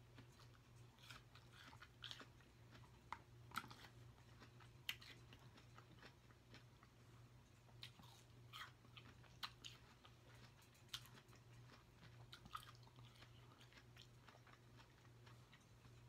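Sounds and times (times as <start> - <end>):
chewing fruit: 0.0 - 16.0.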